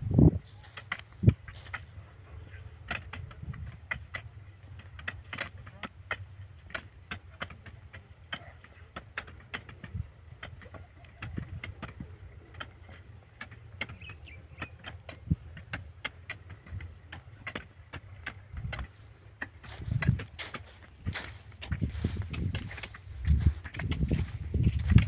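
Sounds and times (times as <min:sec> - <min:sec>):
hand hoes chopping dry soil: 0:00.1 - 0:25.0.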